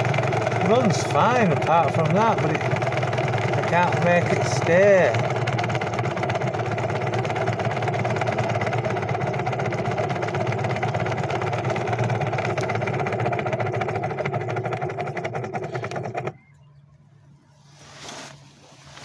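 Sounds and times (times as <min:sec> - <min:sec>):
pressure pump pulsing hum: 0:00.0 - 0:19.0.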